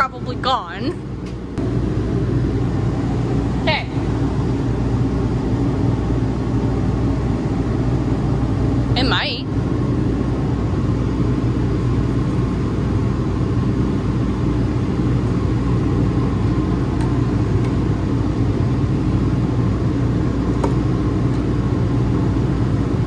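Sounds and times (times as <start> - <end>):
low mechanical motor hum: 0.0 - 23.0.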